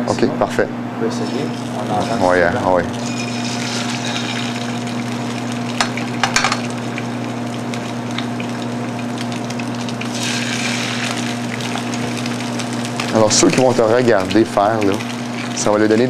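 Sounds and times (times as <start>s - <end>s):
steady low hum: 0.0s - 16.0s
fish sizzling in oil: 1.3s - 16.0s
sharp oil crackles: 2.9s - 16.0s.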